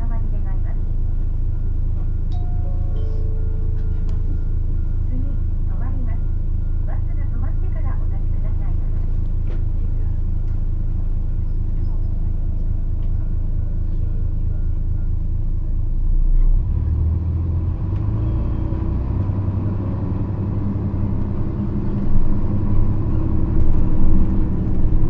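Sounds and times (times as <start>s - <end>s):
bus diesel engine humming: 0.0s - 25.0s.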